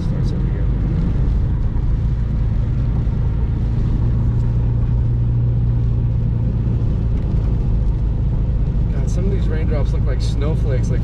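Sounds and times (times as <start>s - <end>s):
car road and engine drone: 0.0s - 11.0s.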